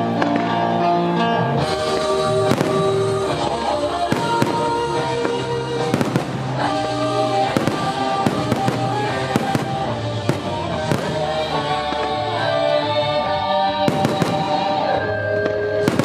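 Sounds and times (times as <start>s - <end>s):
music with long held notes: 0.0s - 16.0s.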